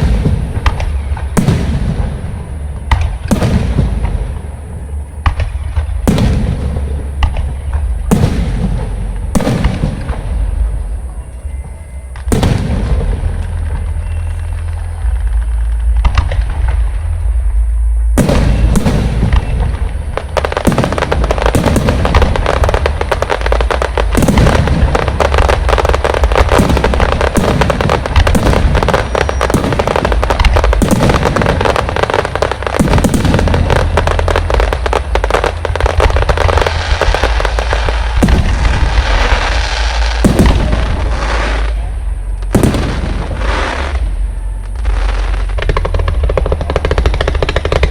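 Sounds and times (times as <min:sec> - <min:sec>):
fireworks bangs and crackle: 0:00.0 - 0:47.9
low rumble: 0:00.0 - 0:47.9.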